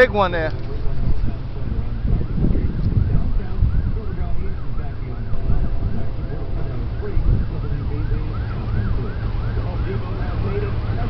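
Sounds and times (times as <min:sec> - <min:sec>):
low rumble: 0:00.0 - 0:11.0
siren yelping: 0:01.6 - 0:11.0.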